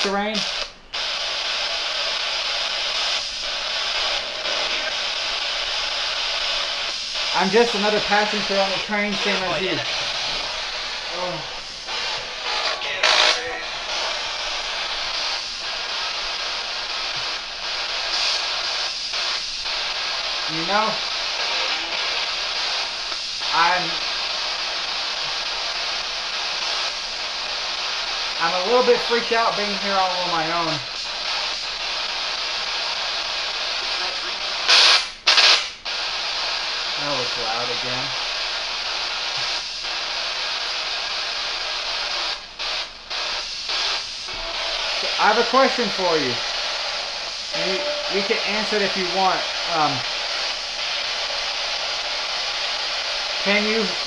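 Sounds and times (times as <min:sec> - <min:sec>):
radio static hiss: 0:00.0 - 0:54.0
snatches of radio sound: 0:00.0 - 0:54.0.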